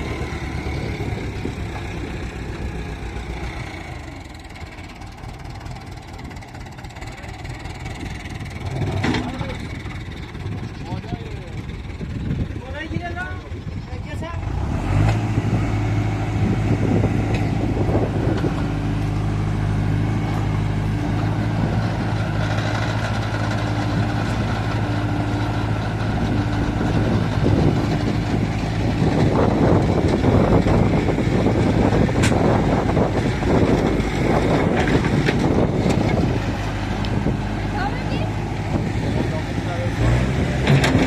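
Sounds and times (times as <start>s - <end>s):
excavator diesel engine running: 0.0s - 41.0s
loud rough noise: 7.0s - 41.0s.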